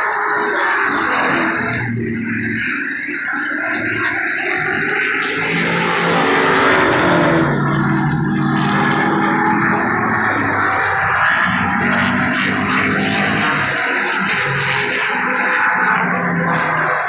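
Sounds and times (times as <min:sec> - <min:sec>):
race car engines passing: 0:00.0 - 0:17.0.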